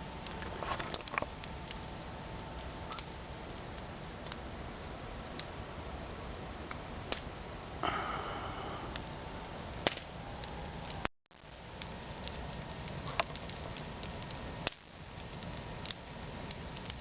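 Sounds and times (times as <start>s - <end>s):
campfire burning: 0.0s - 17.0s
wood crackling and popping: 0.0s - 17.0s.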